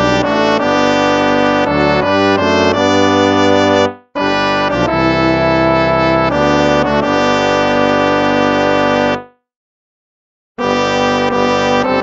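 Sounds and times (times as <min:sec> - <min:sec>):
instrumental music with held chords: 0:00.0 - 0:09.5, 0:10.6 - 0:12.0.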